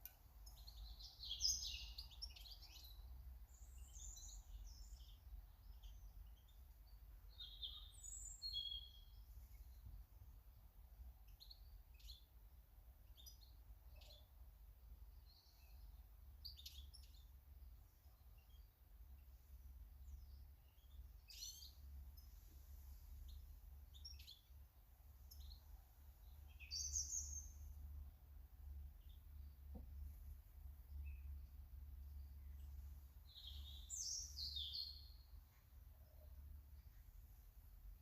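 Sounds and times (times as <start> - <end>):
garden birds chirping: 0.0 - 38.0.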